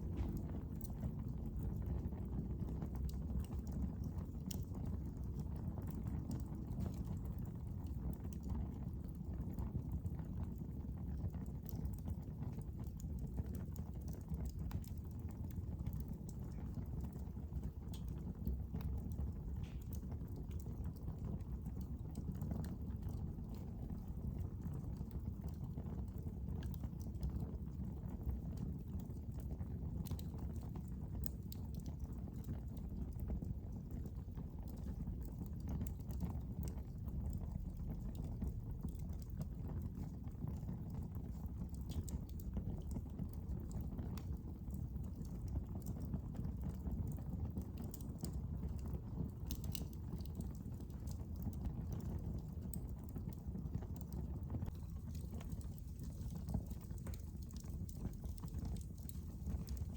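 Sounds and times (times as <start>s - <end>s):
fire crackling and popping: 0.0s - 59.9s
low rumble of fire: 0.0s - 59.9s.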